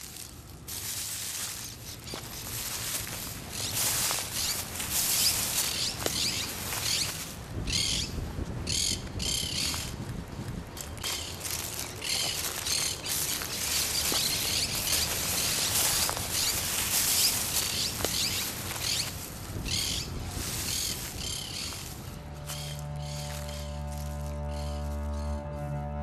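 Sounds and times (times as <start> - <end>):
birds chirping: 0.0 - 10.2, 10.8 - 25.6.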